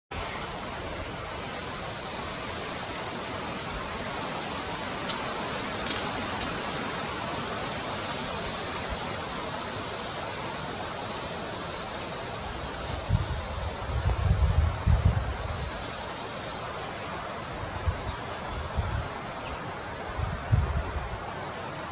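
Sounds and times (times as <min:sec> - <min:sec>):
steady hiss: 0:00.1 - 0:21.9.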